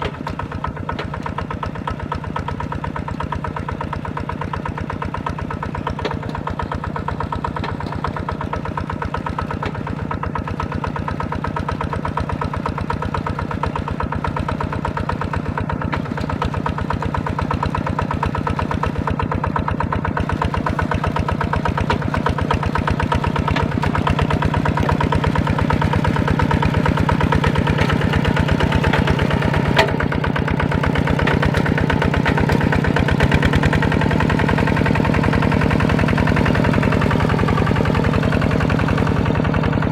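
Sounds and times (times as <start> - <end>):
small tractor engine chugging: 0.0 - 39.9.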